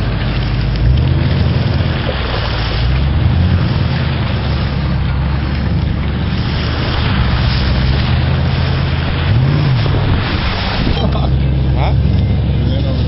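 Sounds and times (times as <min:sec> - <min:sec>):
truck engine running: 0:00.0 - 0:13.0
water splashing off tyres: 0:00.0 - 0:13.0
wind buffeting microphone: 0:00.0 - 0:13.0.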